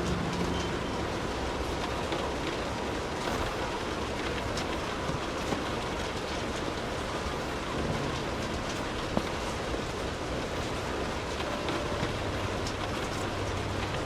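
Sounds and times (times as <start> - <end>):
raindrop hits: 0.0 - 14.0
steady rainfall: 0.0 - 14.0.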